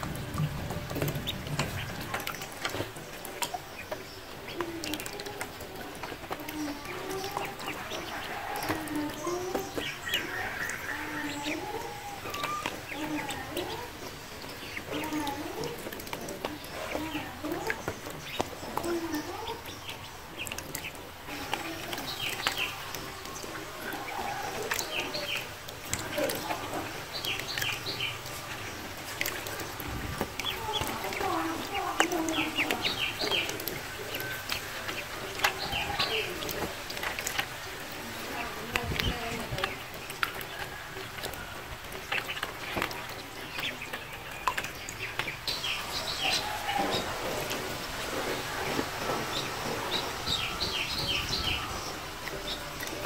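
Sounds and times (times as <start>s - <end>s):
ducklings peeping: 0.0s - 53.0s
water splashes and clicks: 0.0s - 53.0s.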